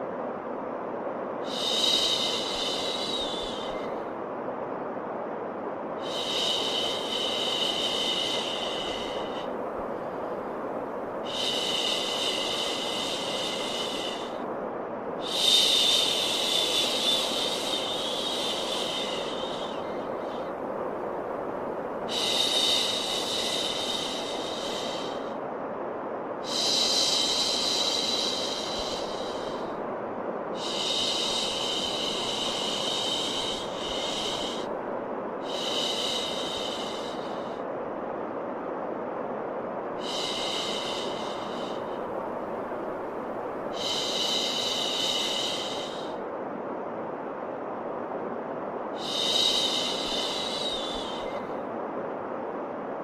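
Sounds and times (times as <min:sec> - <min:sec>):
steady white noise: 0:00.0 - 0:53.0.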